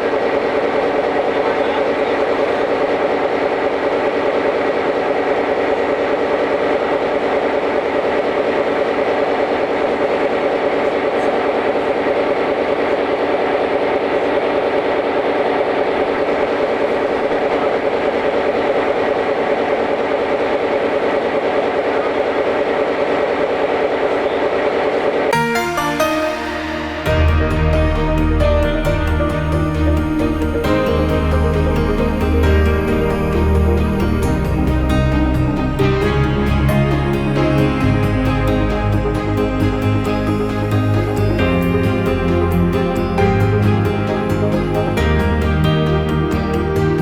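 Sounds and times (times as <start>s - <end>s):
diesel locomotive engine running: 0.0s - 47.0s.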